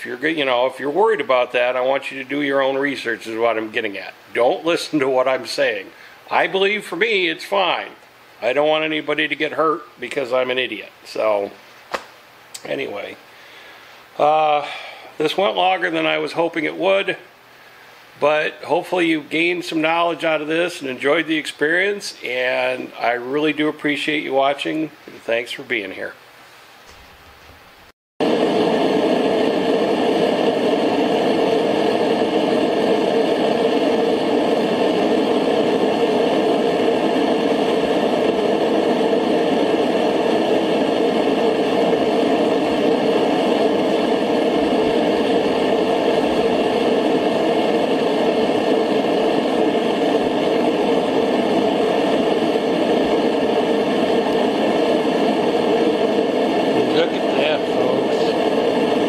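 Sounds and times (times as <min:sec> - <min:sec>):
gas burner rushing: 0:00.0 - 0:25.5, 0:26.5 - 0:59.0.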